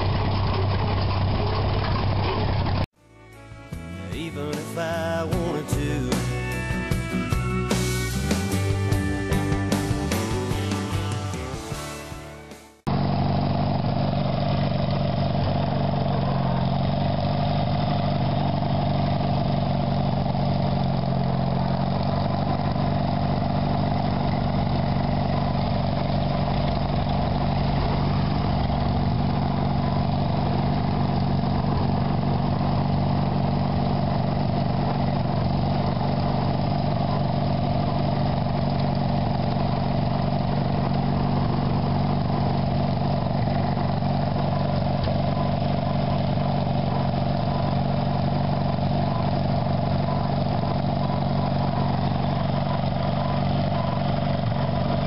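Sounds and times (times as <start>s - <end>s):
engine idling: 0.0s - 2.9s, 3.7s - 55.0s.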